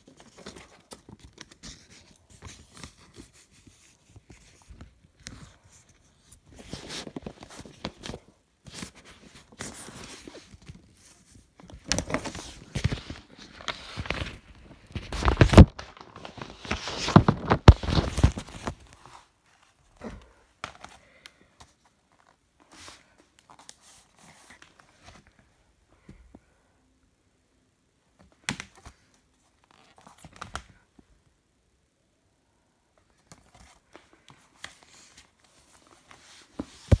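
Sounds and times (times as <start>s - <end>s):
paper sleeves rustling: 0.0s - 26.1s, 33.1s - 37.0s.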